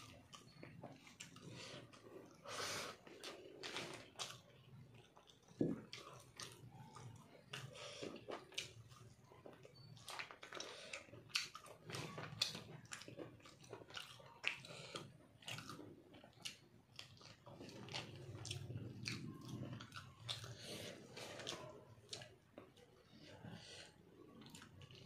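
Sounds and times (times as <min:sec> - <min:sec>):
wet chewing and lip smacks: 0:00.0 - 0:23.5.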